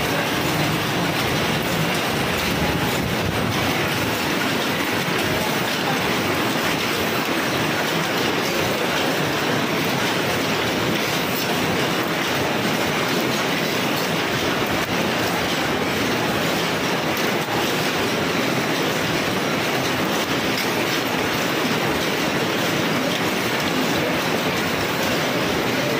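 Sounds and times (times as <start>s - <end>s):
machine clattering: 0.0s - 25.9s.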